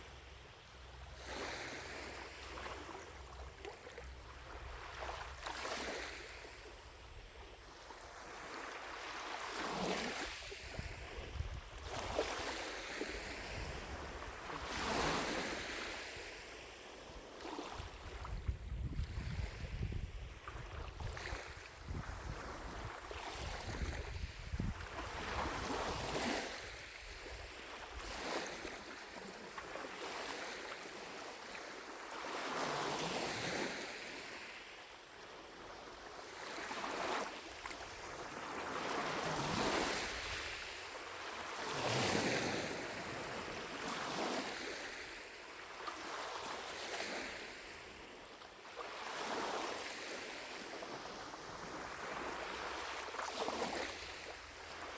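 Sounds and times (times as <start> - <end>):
waves lapping on shore: 0.0 - 54.9.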